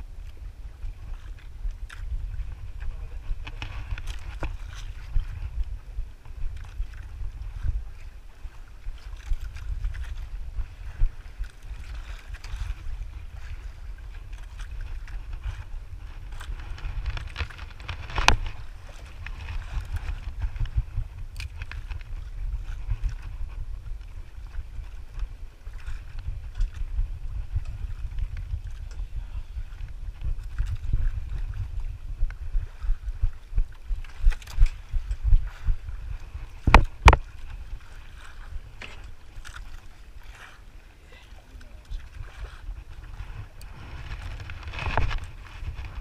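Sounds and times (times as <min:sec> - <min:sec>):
water lapping against boat hull: 0:00.0 - 0:46.0
wind buffeting microphone: 0:00.0 - 0:46.0.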